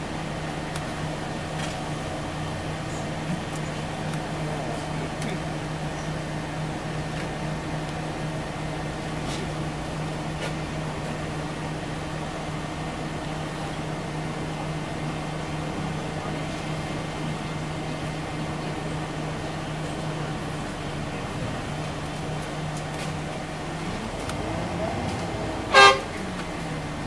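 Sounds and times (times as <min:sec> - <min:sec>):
bus engine and road drone: 0:00.0 - 0:27.0.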